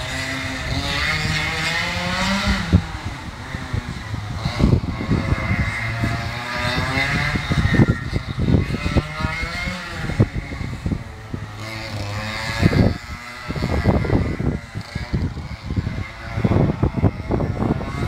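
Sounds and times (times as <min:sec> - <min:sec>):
kart engine running hard: 0:00.0 - 0:18.0.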